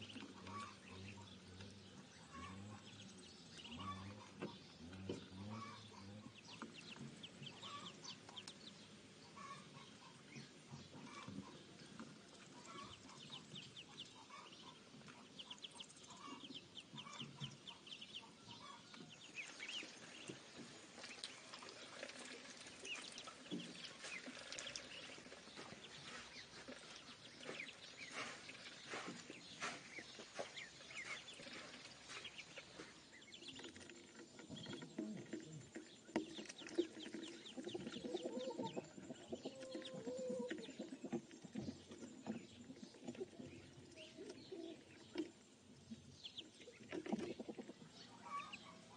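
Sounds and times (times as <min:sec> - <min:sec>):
ducklings peeping: 0:00.0 - 0:48.9.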